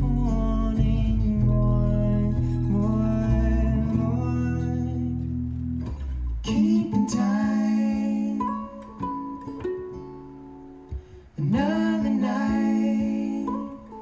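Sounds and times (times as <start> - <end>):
electric bass: 0.0 - 13.9
mandolin: 0.0 - 14.0
strummed acoustic guitar: 0.0 - 14.0.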